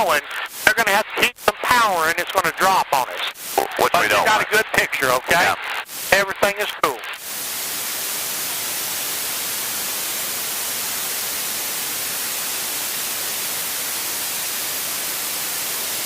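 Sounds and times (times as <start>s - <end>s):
intercom static hiss: 0.0s - 16.0s.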